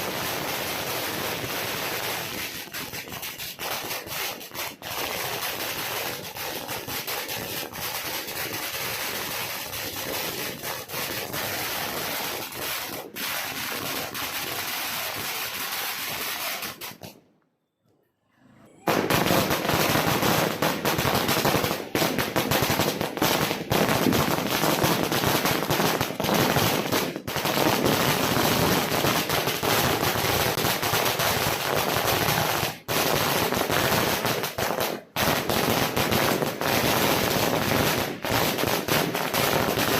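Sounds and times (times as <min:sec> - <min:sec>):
firecracker string crackling: 0:00.0 - 0:17.4, 0:18.8 - 0:39.9.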